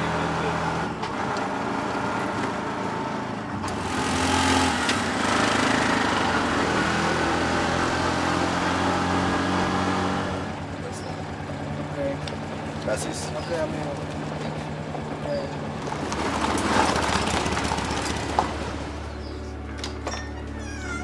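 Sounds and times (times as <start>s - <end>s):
auto rickshaw engine running: 0.0s - 21.0s.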